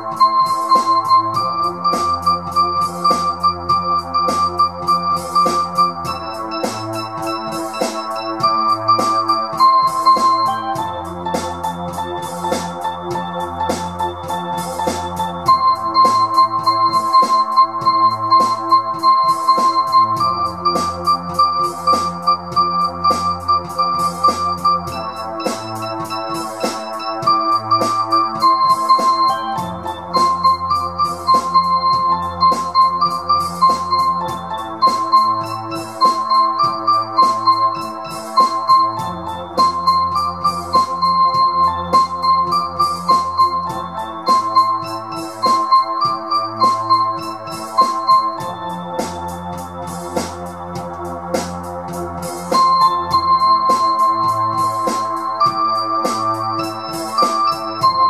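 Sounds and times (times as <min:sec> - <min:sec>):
organ-like synth chords: 0:00.0 - 0:58.0
repeating keyboard melody: 0:00.0 - 0:58.0
sampled drum loop: 0:00.0 - 0:58.0.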